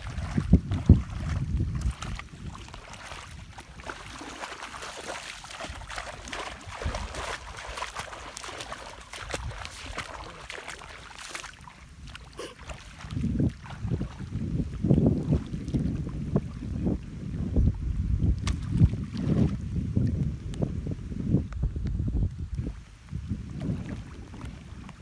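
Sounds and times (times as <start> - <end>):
wind buffeting microphone: 0.0 - 10.5, 11.8 - 25.0
water splashing and trickling: 0.0 - 21.4, 22.2 - 25.0.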